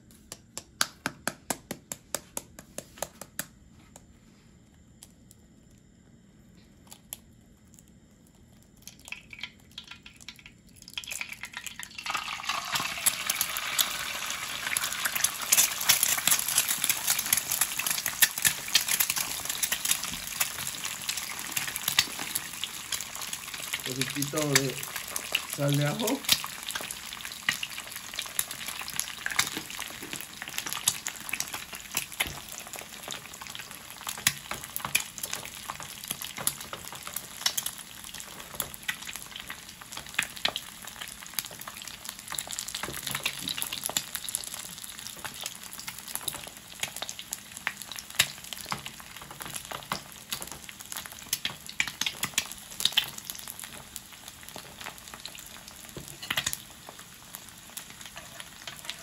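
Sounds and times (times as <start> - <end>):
egg sizzling in frying pan: 6.8 - 59.0.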